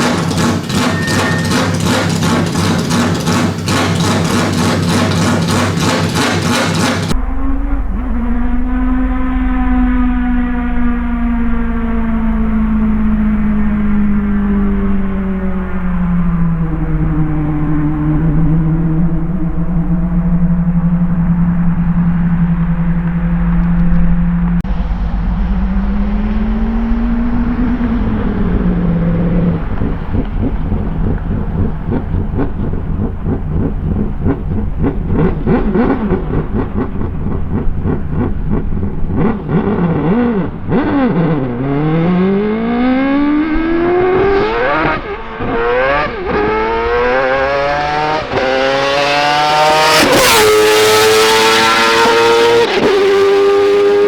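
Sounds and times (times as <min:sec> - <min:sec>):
loud car engine running: 0:00.0 - 0:54.0.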